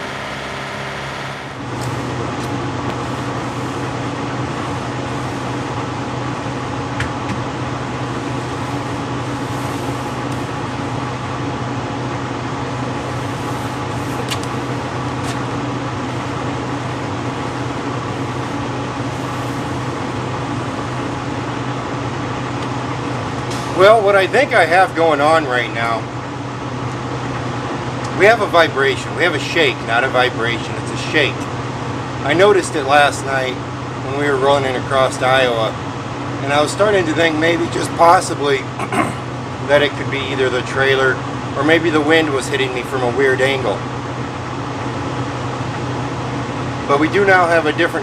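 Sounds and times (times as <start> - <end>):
truck engine and road noise: 0.0 - 48.0.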